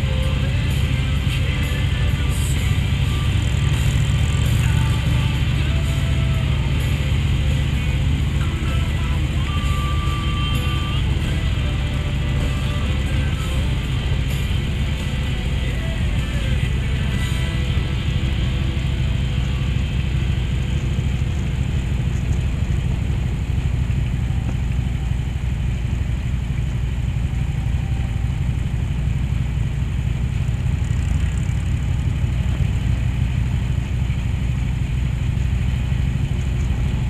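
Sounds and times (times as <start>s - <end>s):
motorcycle engine cruising: 0.0s - 37.0s.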